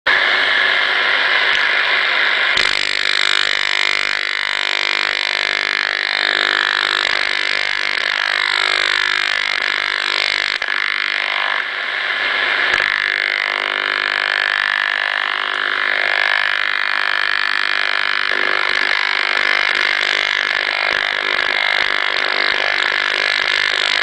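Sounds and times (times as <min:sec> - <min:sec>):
radio interference hiss: 0:00.1 - 0:24.0.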